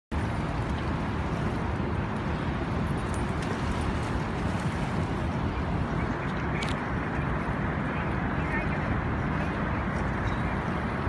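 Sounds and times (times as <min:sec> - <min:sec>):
rushing water: 0:00.1 - 0:11.0
wind: 0:00.1 - 0:11.0.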